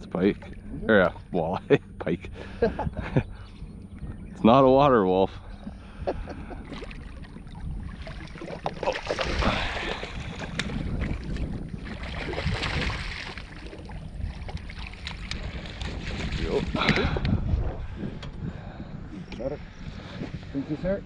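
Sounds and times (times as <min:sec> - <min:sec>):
water lapping against a boat: 0:00.0 - 0:21.0
wind buffeting the microphone: 0:00.0 - 0:21.0.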